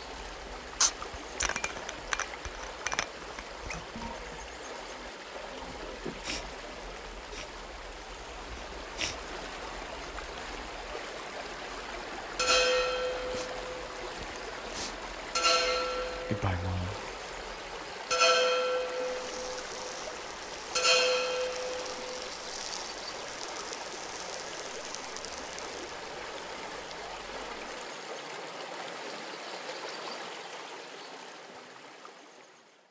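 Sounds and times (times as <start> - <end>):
river water rushing: 0.0 - 29.4.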